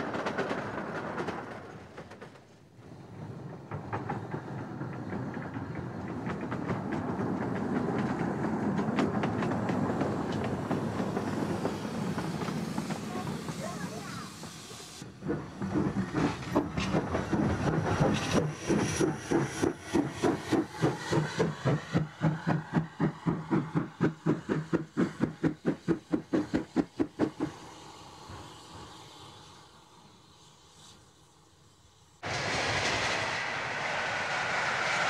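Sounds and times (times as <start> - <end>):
steam locomotive chuffing: 0.0 - 35.0
steam hissing: 2.9 - 35.0.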